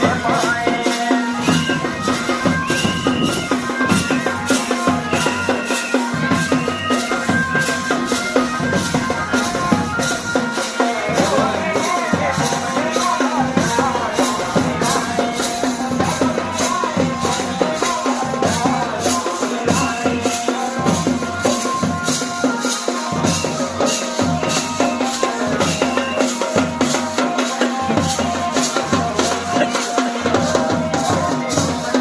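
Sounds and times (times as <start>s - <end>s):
rattling percussion: 0.0s - 32.0s
steady drum beat: 0.0s - 32.0s.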